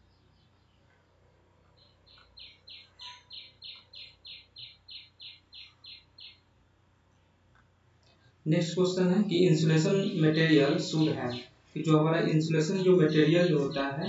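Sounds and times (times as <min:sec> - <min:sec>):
bird chirping: 0:00.0 - 0:06.7, 0:08.5 - 0:14.0.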